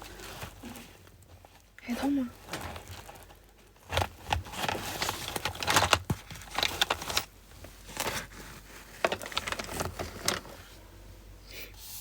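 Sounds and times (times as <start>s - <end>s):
crinkling and rustling: 0.0s - 10.9s.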